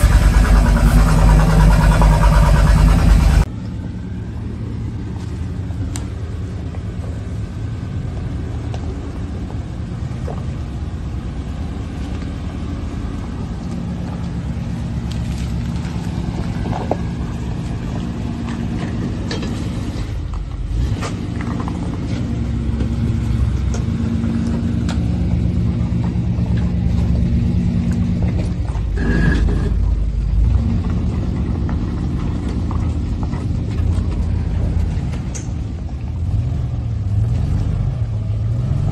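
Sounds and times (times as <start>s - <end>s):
pickup truck engine at low revs: 0.0s - 38.9s.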